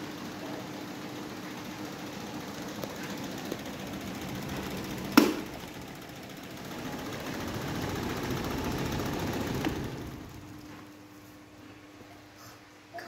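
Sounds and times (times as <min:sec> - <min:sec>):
electric fans whirring: 0:00.0 - 0:13.0.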